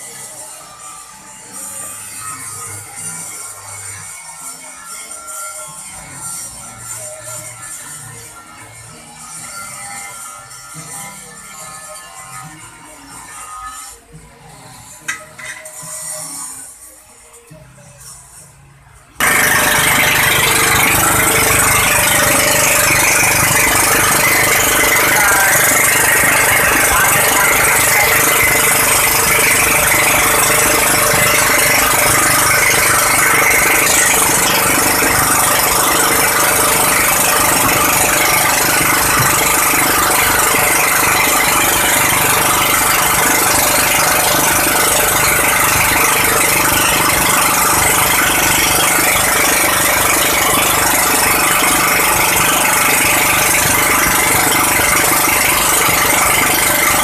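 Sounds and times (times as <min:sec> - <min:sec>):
motor running loudly: 0:00.0 - 0:13.1, 0:19.2 - 0:57.0.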